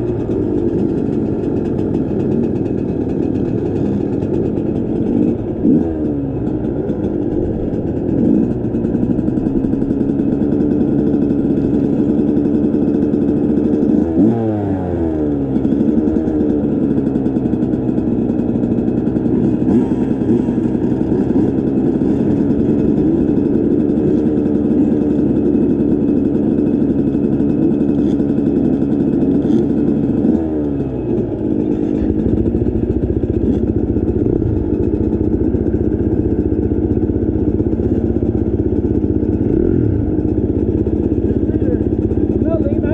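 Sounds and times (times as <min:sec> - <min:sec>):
dirt bike engine revving: 0:00.1 - 0:36.3, 0:39.2 - 0:40.3.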